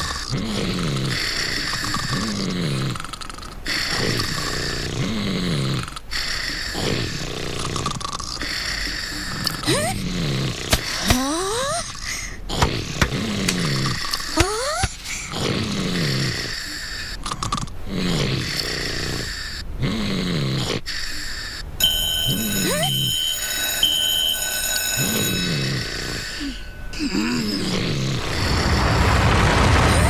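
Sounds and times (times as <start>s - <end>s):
cartoon cats snoring: 0.0s - 23.2s, 25.0s - 29.0s.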